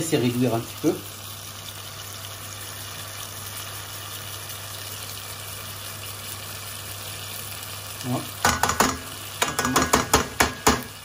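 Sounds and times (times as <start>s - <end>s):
sauce simmering and sizzling: 0.0s - 11.0s.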